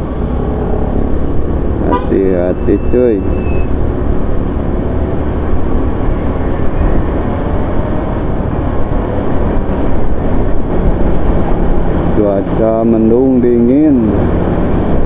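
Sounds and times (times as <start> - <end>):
vehicle road noise: 0.0 - 15.0
wind rumble on microphone: 0.0 - 15.0.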